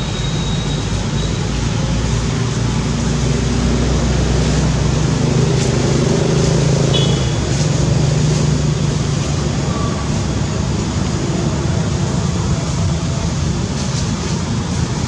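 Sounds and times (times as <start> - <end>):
motor vehicle engine humming: 0.0 - 15.0.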